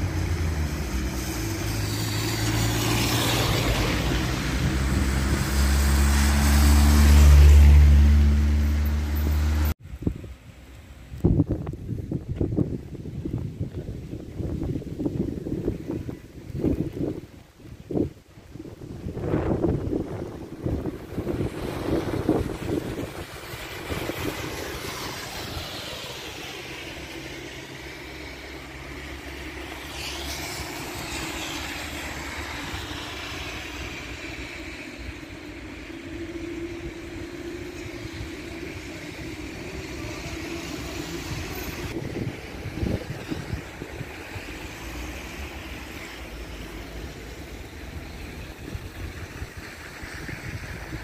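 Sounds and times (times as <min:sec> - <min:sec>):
rain on wet pavement: 0:00.0 - 0:09.7, 0:10.4 - 0:51.0
vehicle sound: 0:00.0 - 0:11.8, 0:19.1 - 0:51.0.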